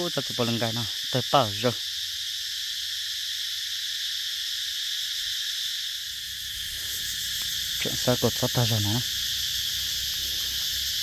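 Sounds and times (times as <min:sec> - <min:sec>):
shrill insect chorus: 0:00.0 - 0:11.0.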